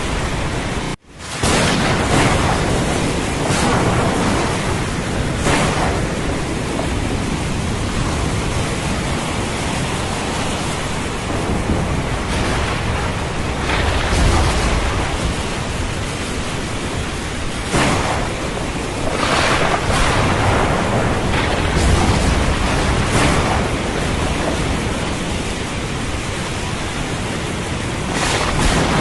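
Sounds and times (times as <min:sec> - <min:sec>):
deep rumble of thunder: 0:00.0 - 0:29.0
ocean surf: 0:00.0 - 0:29.0
rushing swells: 0:00.0 - 0:29.0
steady rain hiss: 0:00.0 - 0:29.0.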